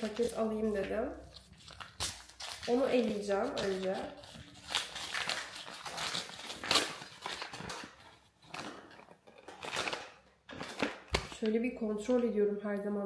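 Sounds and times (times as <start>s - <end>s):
paper packet crinkling: 0.0s - 11.6s.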